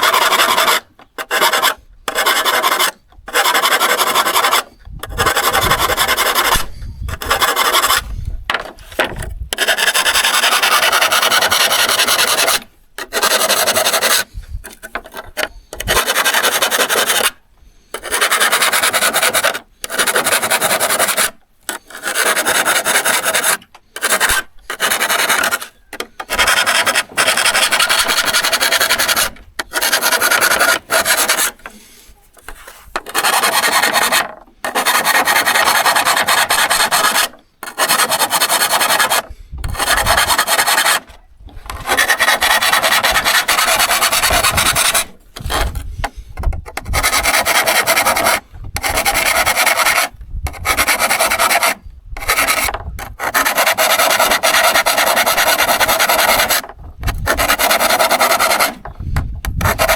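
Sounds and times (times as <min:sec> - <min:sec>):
scraping on steel saw: 0:00.0 - 0:59.9.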